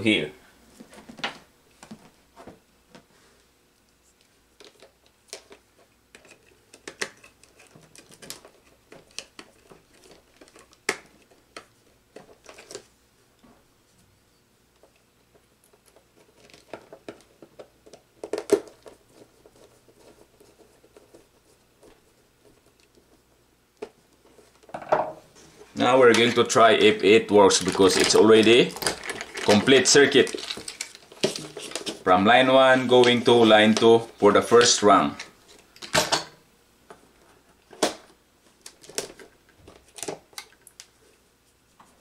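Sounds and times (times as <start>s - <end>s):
wires clicking and rustling: 3.8s - 13.5s, 14.8s - 24.8s, 25.4s - 36.1s, 37.1s - 41.2s.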